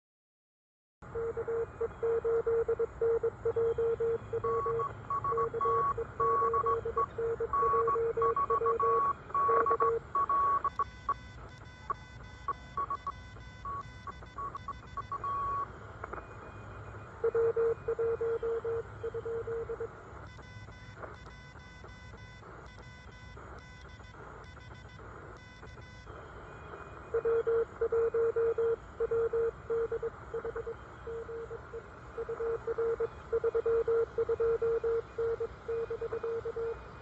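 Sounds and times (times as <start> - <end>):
low-pitched morse code tone: 1.2 - 26.1, 26.8 - 37.0
high-pitched morse signal: 1.3 - 15.7, 17.2 - 26.1, 27.1 - 37.0.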